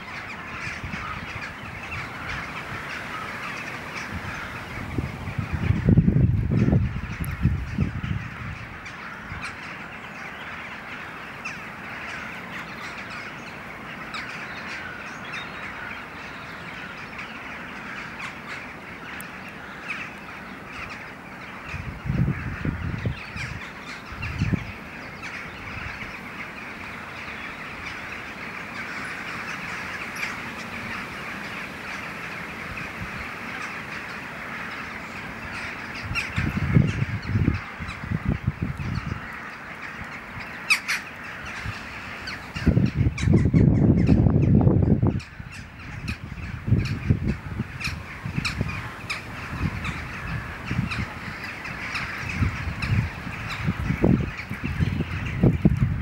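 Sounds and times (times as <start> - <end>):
starlings chattering: 0.0 - 56.0.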